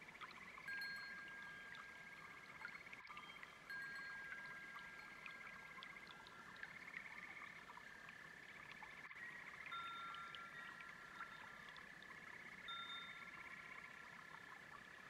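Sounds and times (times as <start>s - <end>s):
frogs and toads calling: 0.0s - 15.0s.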